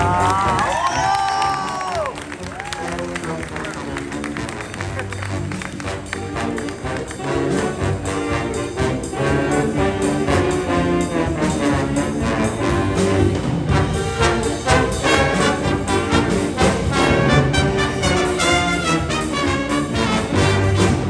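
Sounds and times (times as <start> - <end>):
band playing with brass: 0.0 - 21.0.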